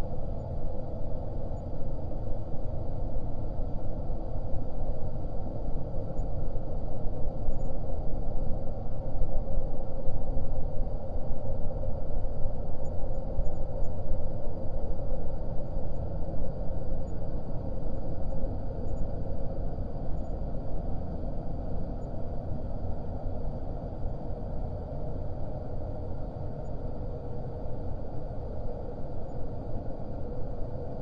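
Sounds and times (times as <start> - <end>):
faint held hum: 0.0 - 31.0.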